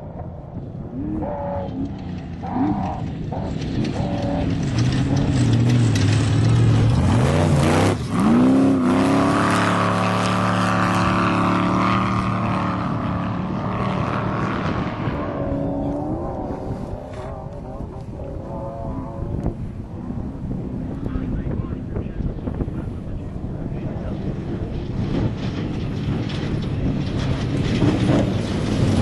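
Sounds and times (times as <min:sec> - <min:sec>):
race truck engine running hard: 0:00.0 - 0:29.0.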